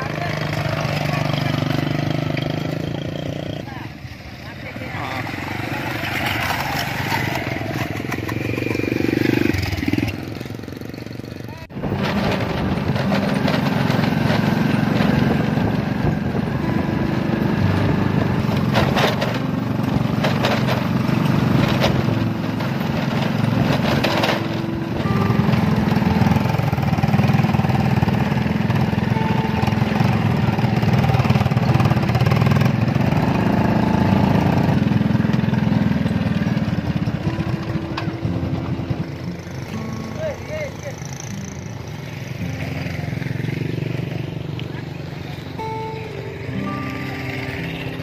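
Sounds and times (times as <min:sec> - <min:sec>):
small motorcycle engine running: 0:00.0 - 0:48.0.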